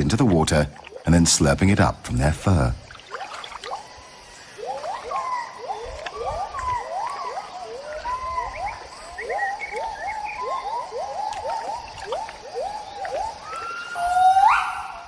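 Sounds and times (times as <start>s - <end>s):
gibbons whooping calls: 2.8s - 15.0s.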